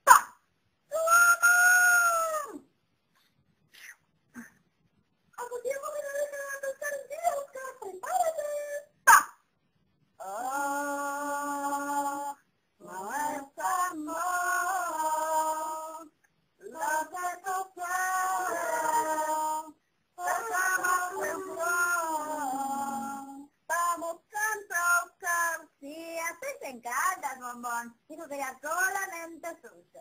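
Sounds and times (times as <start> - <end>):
high voice singing unaccompanied: 0.9 - 2.7, 5.4 - 9.0, 10.2 - 30.0.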